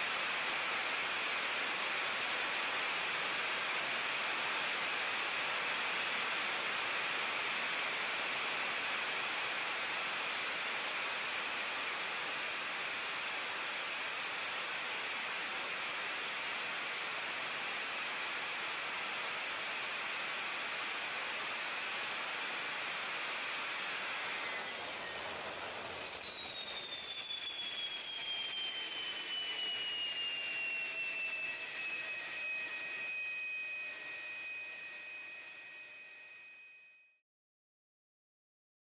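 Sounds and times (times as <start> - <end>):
jet engine running: 0.2 - 36.0.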